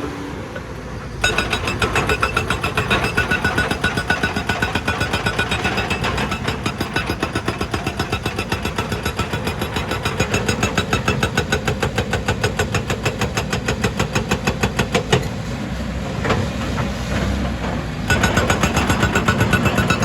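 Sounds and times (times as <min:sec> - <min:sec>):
excavator engine running: 0:00.5 - 0:20.0
hydraulic rock breaker hammering: 0:01.2 - 0:15.4, 0:18.0 - 0:20.0.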